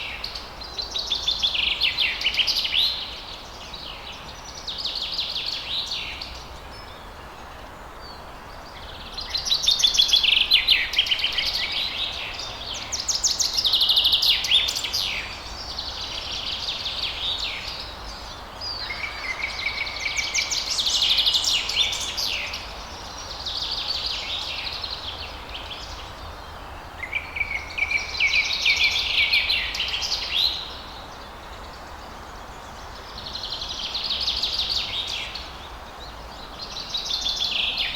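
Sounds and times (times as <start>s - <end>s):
faint steady hiss: 0.0s - 37.9s
songbirds trilling chirps: 0.0s - 37.9s.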